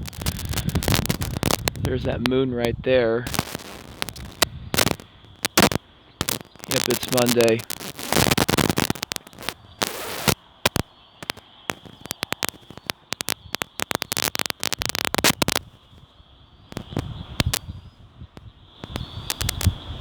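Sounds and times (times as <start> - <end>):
sharp crackling clicks: 0.0 - 15.8, 16.7 - 17.7, 18.8 - 19.8.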